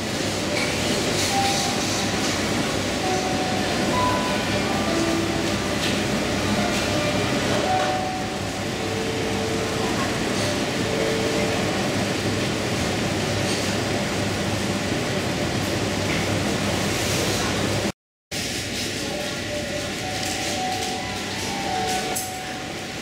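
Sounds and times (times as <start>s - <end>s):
supermarket background noise: 0.0s - 23.0s.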